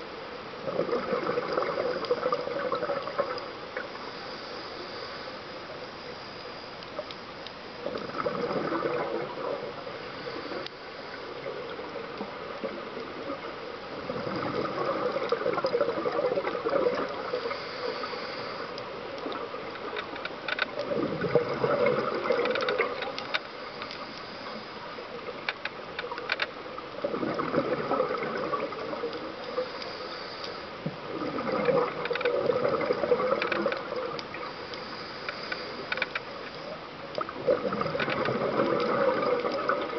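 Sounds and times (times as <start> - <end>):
regulator bubbles gurgling underwater: 0.0 - 39.9.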